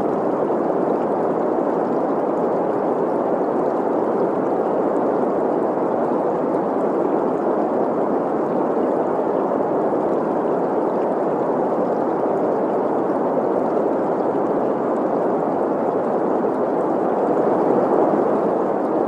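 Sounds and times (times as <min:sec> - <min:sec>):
flowing stream: 0:00.0 - 0:19.0.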